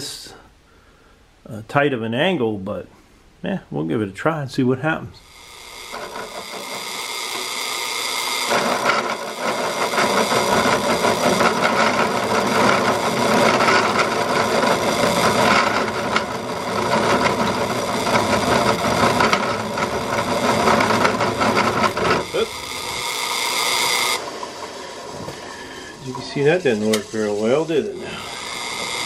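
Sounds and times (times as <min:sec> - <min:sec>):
drill press running: 0:05.2 - 0:29.0
hole saw cutting steel pipe: 0:05.2 - 0:29.0.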